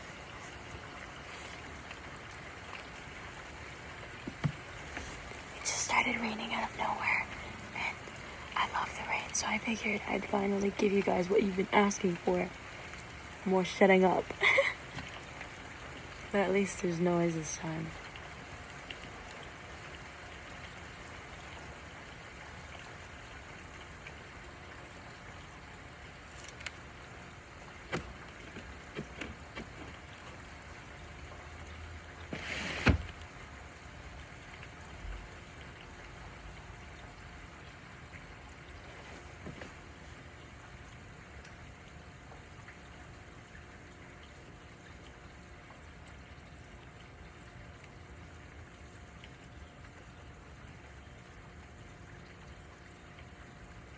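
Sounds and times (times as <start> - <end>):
raindrops ticking: 0.0 - 53.9
steady rain hiss: 0.0 - 53.9.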